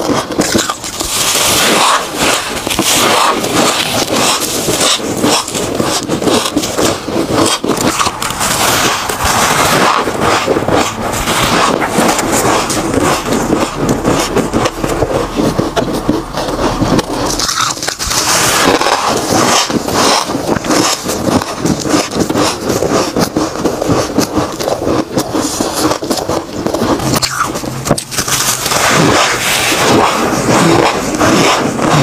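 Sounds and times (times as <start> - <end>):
chewing frost crunches: 0.0 - 32.0
hand squeezing frost: 0.0 - 32.0.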